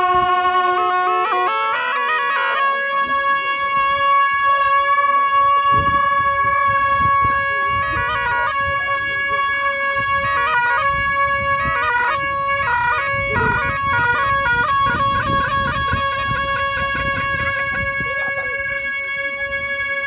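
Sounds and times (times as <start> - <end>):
two oboes playing: 0.0 - 20.0.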